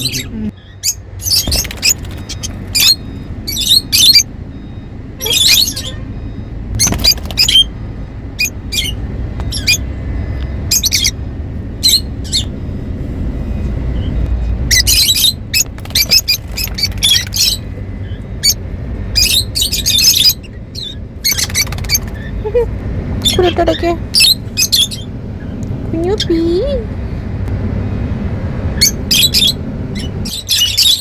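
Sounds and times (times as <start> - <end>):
lovebirds chirping and squawking: 0.0 - 27.2, 28.6 - 31.0
low background hum: 0.0 - 31.0.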